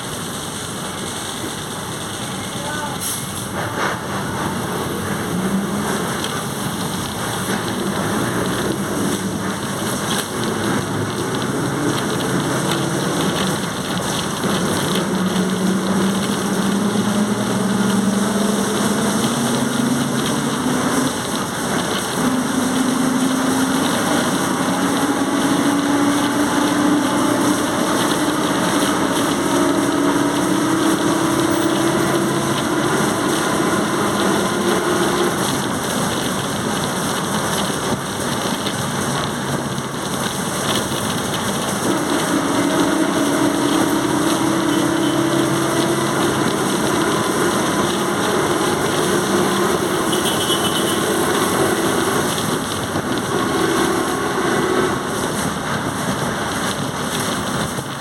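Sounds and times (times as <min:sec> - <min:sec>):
engine and road noise: 0:00.0 - 0:58.0.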